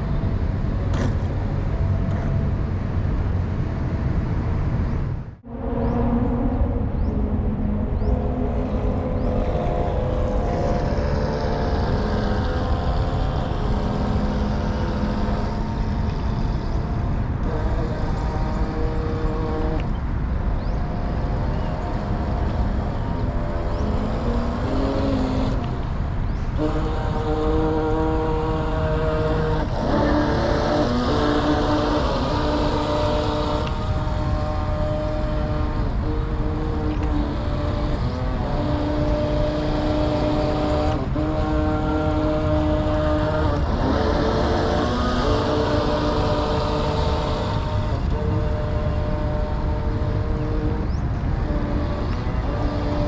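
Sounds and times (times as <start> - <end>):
steady low rumble: 0.0 - 53.0
electric motor whining: 5.4 - 53.0.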